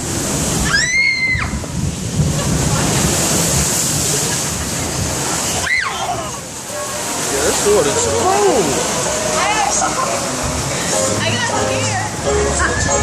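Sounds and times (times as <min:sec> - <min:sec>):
rushing churning water: 0:00.0 - 0:13.0.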